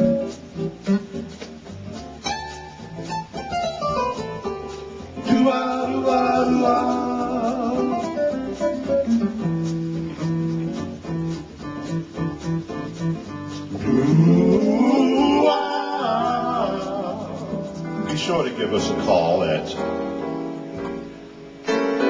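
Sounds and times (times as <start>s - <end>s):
instrumental guitar music: 0.0s - 22.0s
low bass notes: 0.0s - 22.0s.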